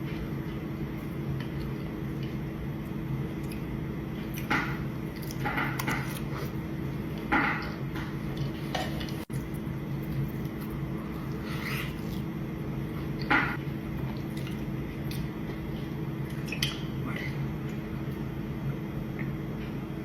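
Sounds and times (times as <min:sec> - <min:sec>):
steady low hum: 0:00.0 - 0:20.0
wet eating squelches: 0:00.1 - 0:18.4.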